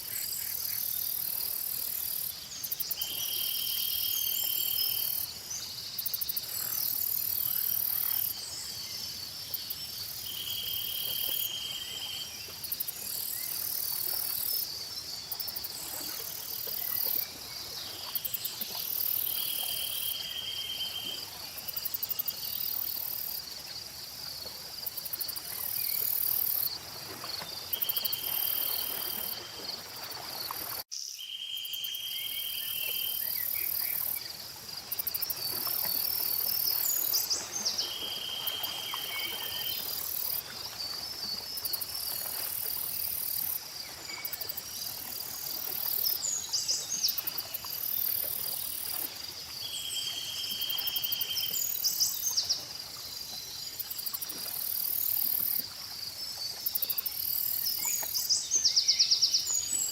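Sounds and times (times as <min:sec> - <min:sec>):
crickets and insects chirping: 0:00.0 - 0:59.9.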